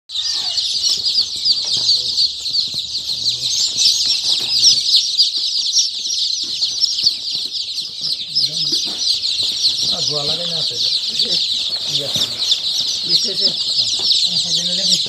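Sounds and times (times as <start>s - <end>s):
chicks peeping: 0.1s - 15.0s.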